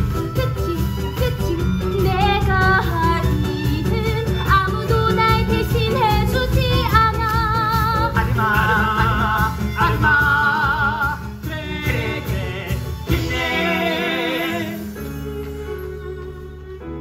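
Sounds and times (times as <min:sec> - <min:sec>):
backing track with bass: 0:00.0 - 0:15.0.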